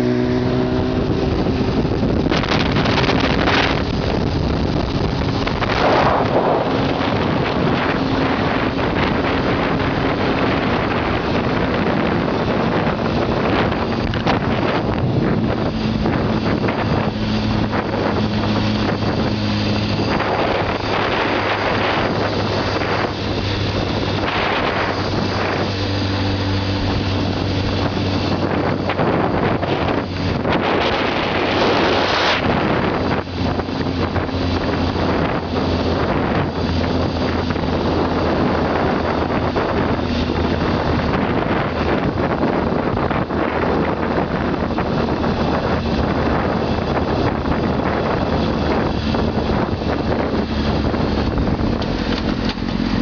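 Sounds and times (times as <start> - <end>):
motorcycle engine cruising: 0.0 - 53.0
wind rushing over microphone: 0.0 - 53.0.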